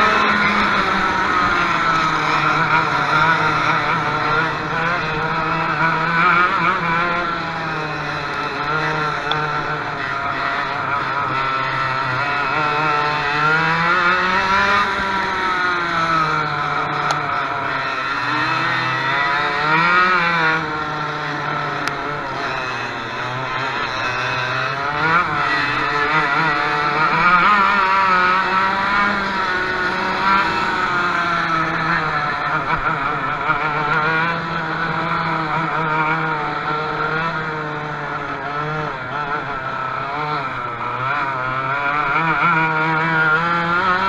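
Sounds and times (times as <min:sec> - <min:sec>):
kart engine revving: 0:00.0 - 0:44.0.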